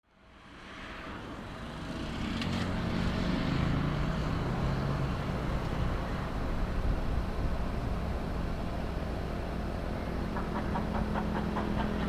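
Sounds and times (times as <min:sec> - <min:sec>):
jet engine noise: 0:00.2 - 0:12.0.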